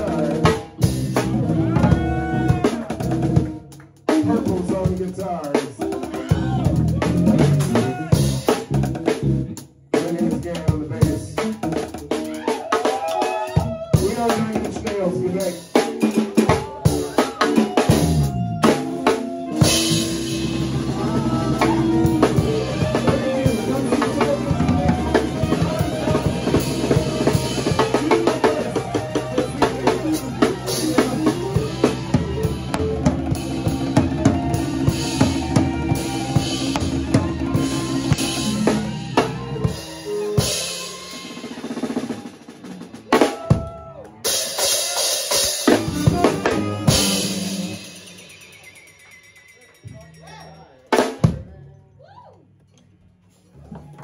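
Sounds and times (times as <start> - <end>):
funk band playing: 0.0 - 51.6.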